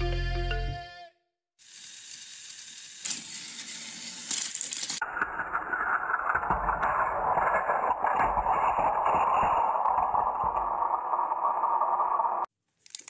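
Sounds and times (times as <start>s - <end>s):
toy trains clattering and knocking: 1.6s - 12.0s, 12.8s - 13.0s
toy trains whirring on track: 1.6s - 13.0s.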